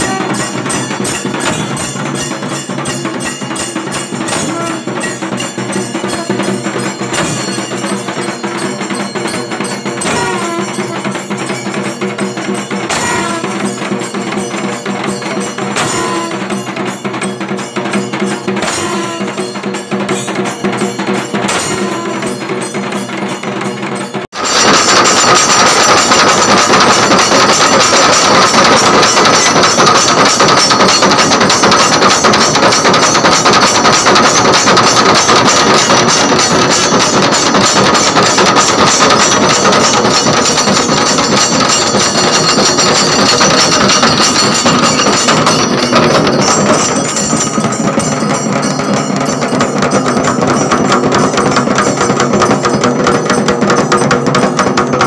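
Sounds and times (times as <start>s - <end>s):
barrel drums beaten fast: 0.0s - 55.0s.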